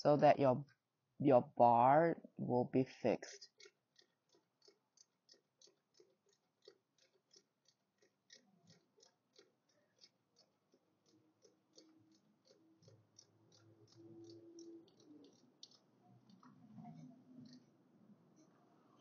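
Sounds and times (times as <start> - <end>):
faint steady clicking: 3.3 - 19.0.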